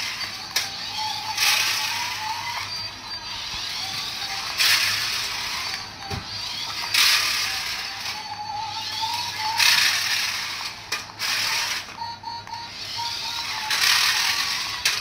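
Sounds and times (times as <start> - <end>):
toy car motor whirring and rattling: 0.0 - 15.0.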